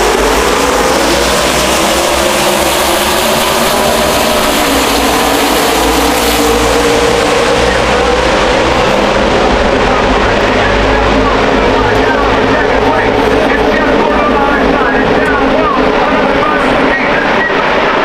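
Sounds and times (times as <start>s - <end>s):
race car engines at full throttle: 0.0s - 18.0s.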